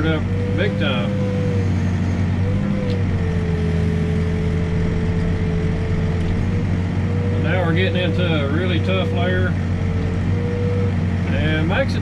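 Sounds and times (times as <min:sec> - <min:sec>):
diesel engine running: 0:00.0 - 0:12.0
hydraulic whine: 0:00.0 - 0:12.0.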